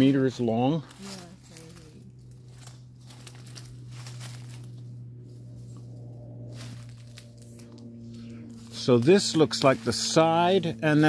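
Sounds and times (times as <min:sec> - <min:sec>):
dry leaves and twigs crackling: 0:00.0 - 0:11.0
steady low hum: 0:00.0 - 0:11.0.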